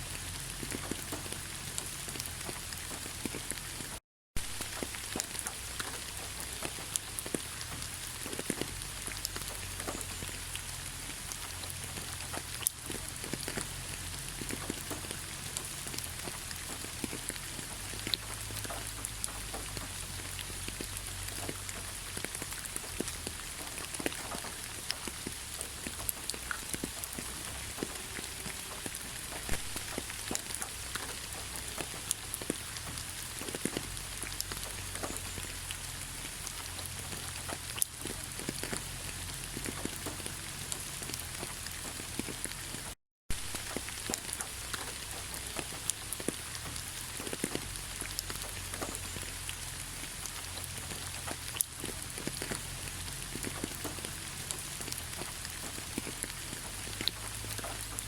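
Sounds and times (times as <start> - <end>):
heavy rain falling: 0.0 - 58.0
raindrops ticking: 0.0 - 58.0.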